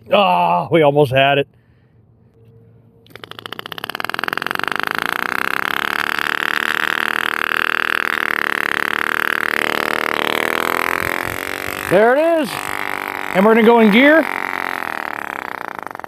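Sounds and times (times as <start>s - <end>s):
tiny model car engine running: 3.1s - 16.0s.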